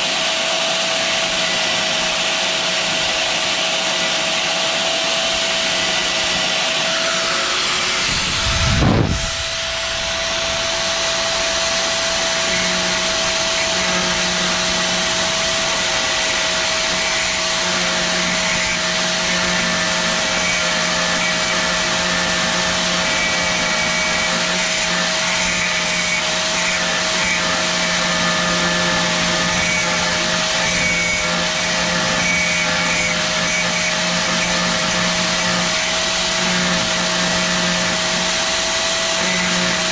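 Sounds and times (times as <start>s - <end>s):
cutting disc motor whining: 0.0s - 39.9s.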